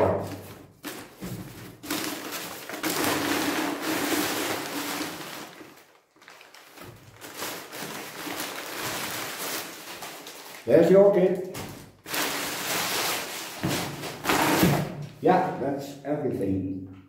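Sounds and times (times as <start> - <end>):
packaging rustling and crinkling: 0.1 - 14.7.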